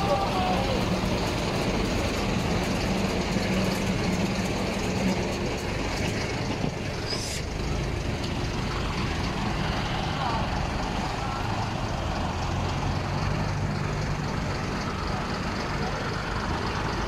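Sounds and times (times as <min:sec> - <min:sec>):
lorry engine running: 0:00.0 - 0:17.0.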